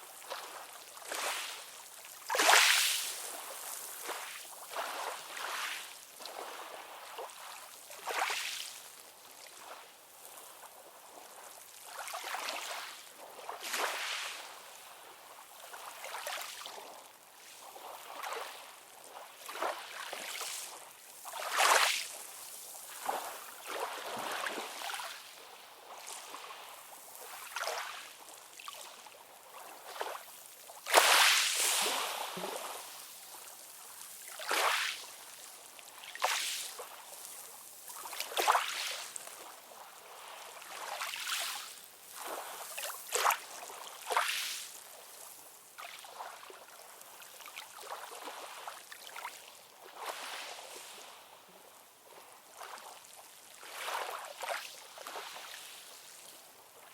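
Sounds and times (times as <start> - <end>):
small waves lapping and splashing: 0.0 - 56.9.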